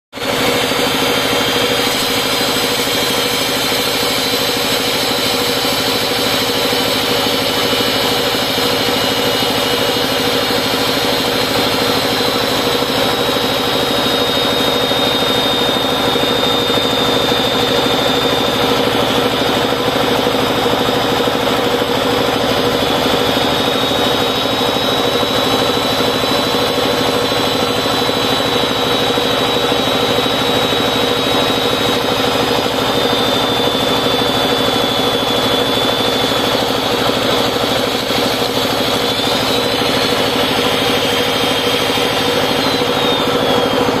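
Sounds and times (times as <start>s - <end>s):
core drill cutting road surface: 0.1s - 44.0s
high motor whine: 0.1s - 44.0s.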